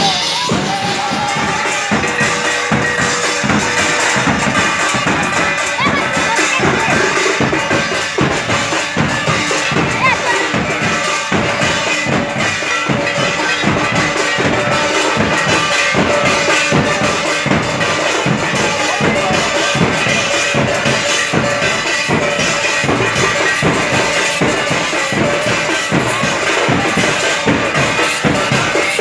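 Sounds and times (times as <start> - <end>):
large drums beating: 0.0 - 29.0
ringing metal cymbals: 0.0 - 29.0.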